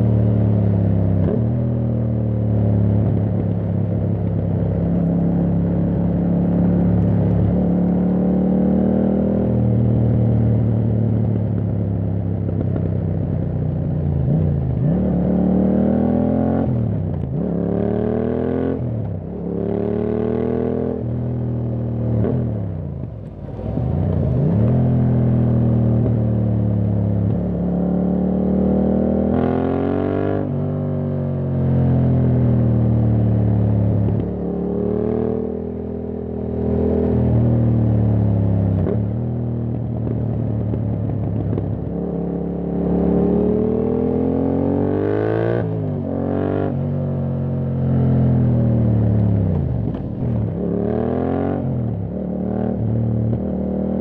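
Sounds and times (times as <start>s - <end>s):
motorcycle engine with upshifts: 0.0s - 54.0s.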